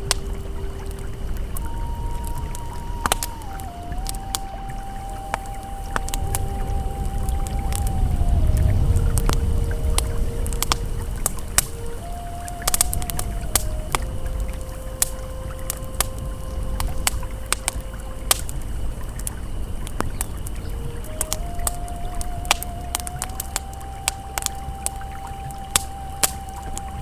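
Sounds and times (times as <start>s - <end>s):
ambient synth tones: 0.0s - 27.0s
campfire crackling and popping: 0.0s - 27.0s
river flowing: 0.0s - 27.0s.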